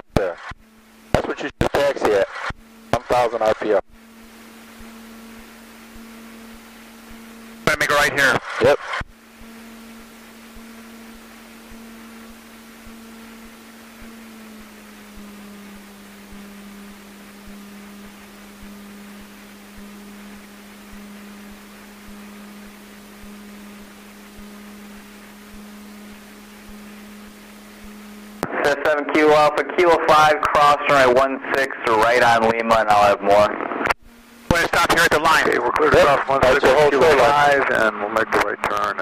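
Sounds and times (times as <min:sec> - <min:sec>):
small plane engine humming: 0:00.0 - 0:39.0.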